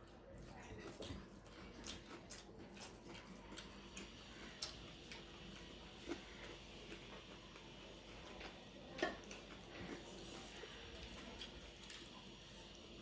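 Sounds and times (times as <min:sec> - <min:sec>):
faint eating clicks and taps: 0:00.0 - 0:12.9.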